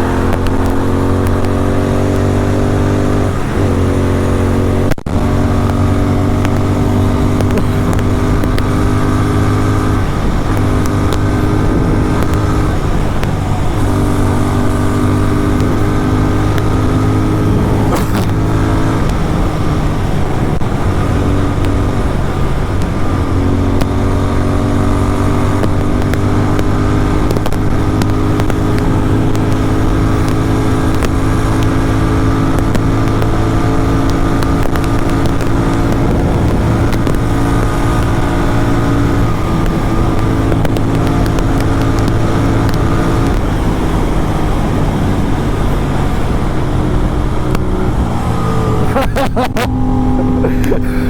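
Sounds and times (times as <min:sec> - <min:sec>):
motorcycle engine droning: 0:00.0 - 0:51.0.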